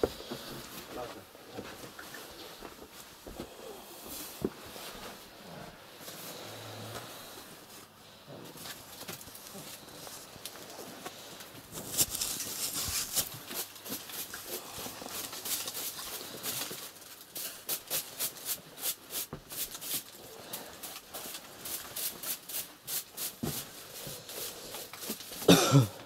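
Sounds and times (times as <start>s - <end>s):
rustling: 0.0s - 25.5s.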